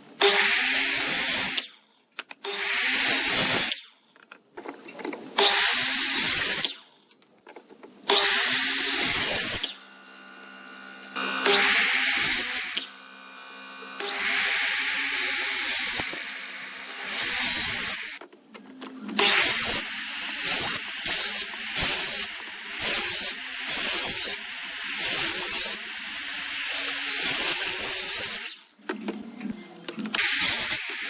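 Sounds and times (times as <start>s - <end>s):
power tool cutting wood: 0.2s - 1.7s, 2.4s - 3.9s, 5.4s - 6.9s, 8.0s - 18.2s, 19.1s - 28.7s, 30.1s - 31.0s.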